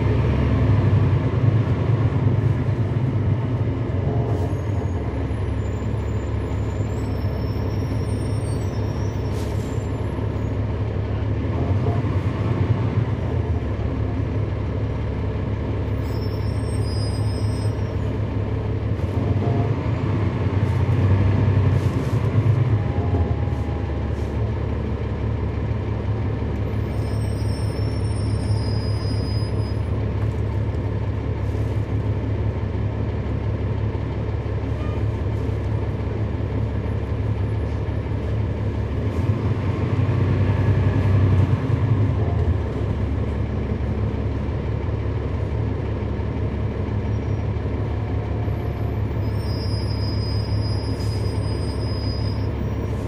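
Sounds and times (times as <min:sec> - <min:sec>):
bus diesel engine drone: 0:00.0 - 0:53.0.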